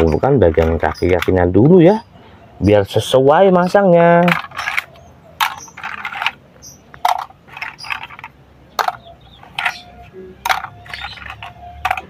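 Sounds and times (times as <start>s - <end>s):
plastic toys clattering on ground: 0.0s - 2.0s, 4.0s - 12.0s.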